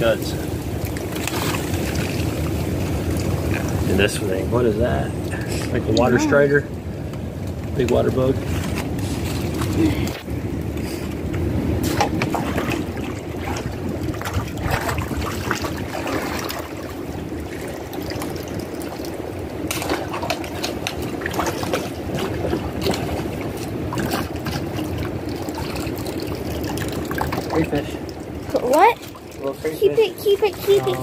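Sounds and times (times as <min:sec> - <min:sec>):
steady low rumble: 0:00.0 - 0:31.0
water splashing and sloshing: 0:00.0 - 0:31.0.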